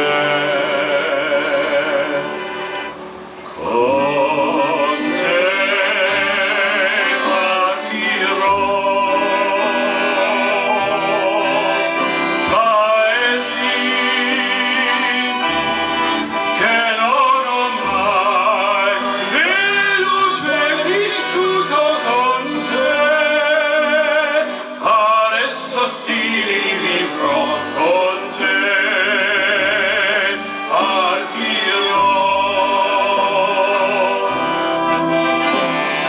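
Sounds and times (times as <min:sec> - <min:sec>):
man singing into a microphone: 0:00.0 - 0:02.4, 0:03.6 - 0:15.6, 0:16.5 - 0:34.4
button accordion playing: 0:02.0 - 0:24.8, 0:26.5 - 0:36.0.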